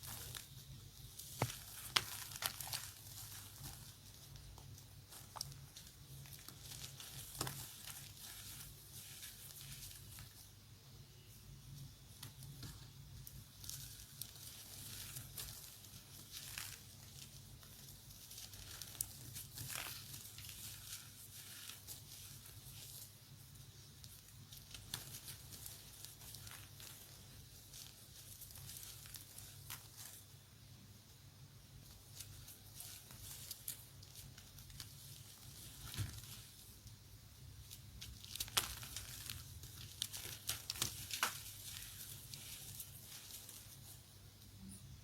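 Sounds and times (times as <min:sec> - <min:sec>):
chalk crunching and crumbling: 0:00.0 - 0:10.6, 0:11.8 - 0:30.4, 0:31.7 - 0:44.2.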